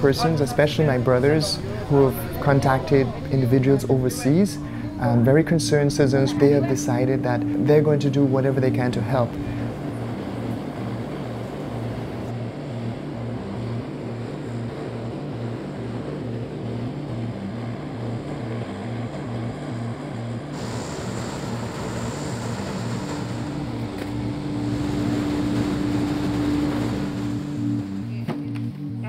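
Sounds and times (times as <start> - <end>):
steady hum: 0.0 - 29.0
turboprop engines droning: 0.0 - 29.0.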